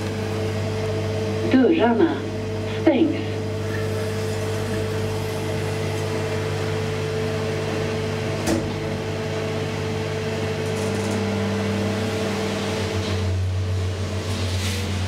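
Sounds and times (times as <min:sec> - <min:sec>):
elevator electrical hum: 0:00.0 - 0:15.0
higher drive hum: 0:00.0 - 0:15.0.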